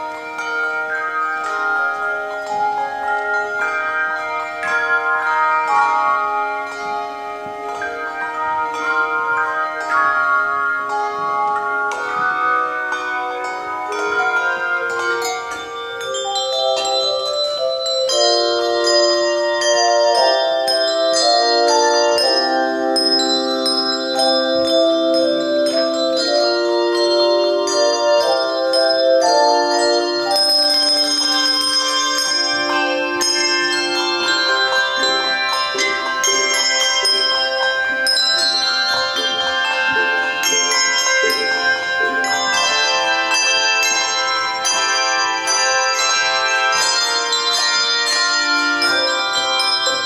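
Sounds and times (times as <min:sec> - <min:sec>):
handbell choir playing chords: 0:00.0 - 0:50.0.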